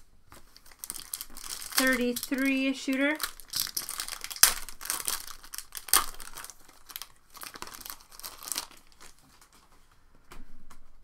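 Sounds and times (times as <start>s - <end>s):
foil wrapper crinkling: 0.3s - 9.7s.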